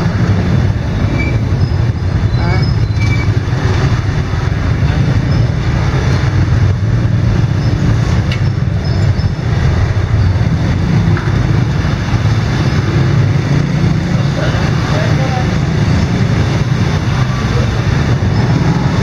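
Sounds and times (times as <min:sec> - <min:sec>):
motorbike engines rumbling: 0:00.0 - 0:19.0.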